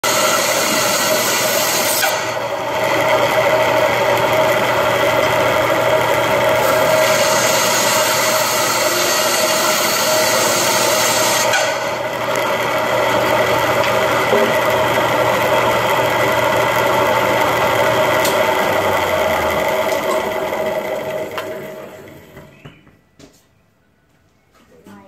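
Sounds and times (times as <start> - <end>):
band saw cutting wood: 0.0 - 22.3.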